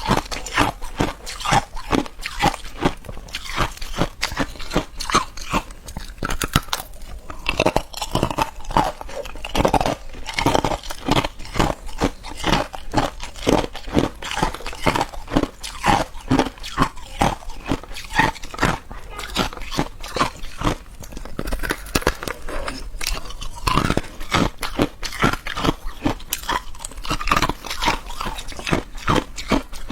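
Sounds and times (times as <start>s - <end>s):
ice crunching between teeth: 0.0s - 29.9s.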